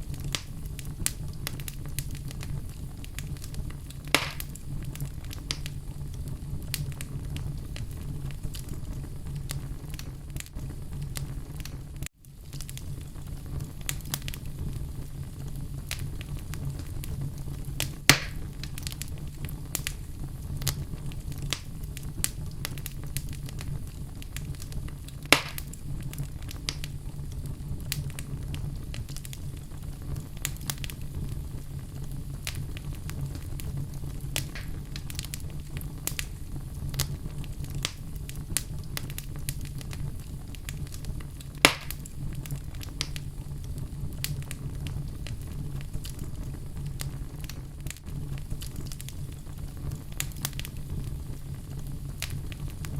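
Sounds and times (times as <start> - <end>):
sharp fire pops: 0.0 - 52.9
wood fire crackling: 0.0 - 52.9.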